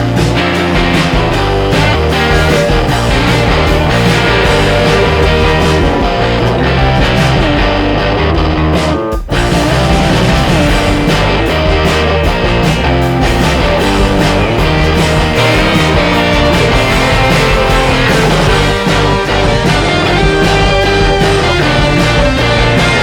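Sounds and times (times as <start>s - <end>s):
rock music with guitar: 0.0s - 23.0s.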